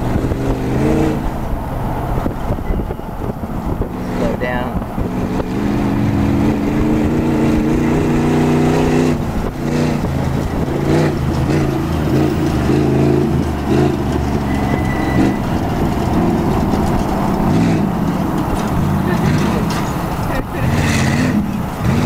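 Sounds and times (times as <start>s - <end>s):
race truck engine running hard: 0.0s - 22.0s.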